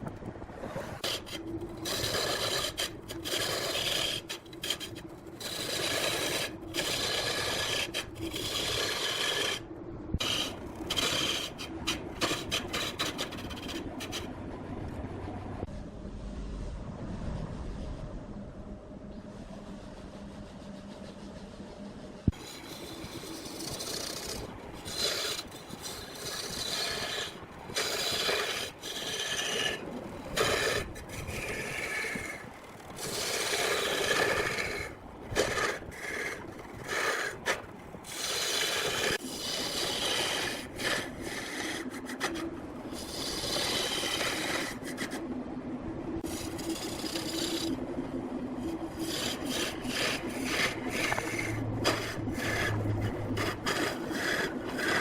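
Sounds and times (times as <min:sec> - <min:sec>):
lathe tool scraping wood: 0:00.9 - 0:14.3, 0:22.3 - 0:45.2, 0:46.2 - 0:47.9, 0:48.6 - 0:55.0.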